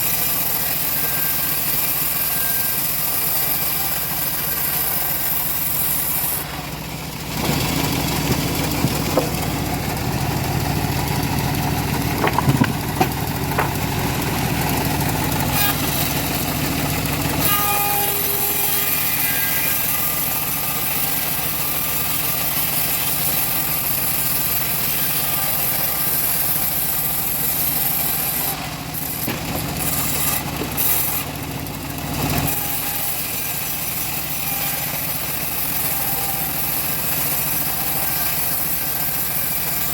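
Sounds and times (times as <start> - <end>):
engine-driven bandsaw ripping wood: 0.0 - 39.9.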